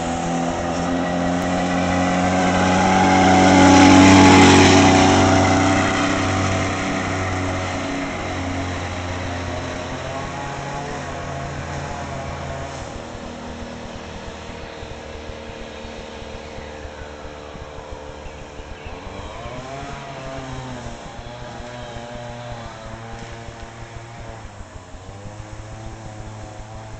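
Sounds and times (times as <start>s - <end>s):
small engine running: 0.0s - 26.9s.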